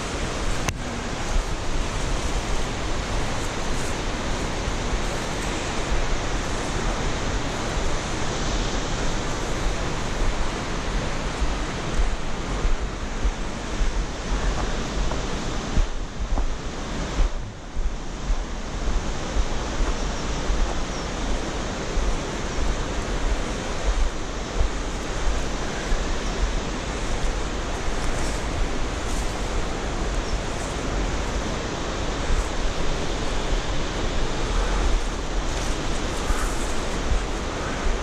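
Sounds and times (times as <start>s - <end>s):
river and waterfall rushing: 0.0s - 38.0s
wind gusting on microphone: 0.0s - 38.0s.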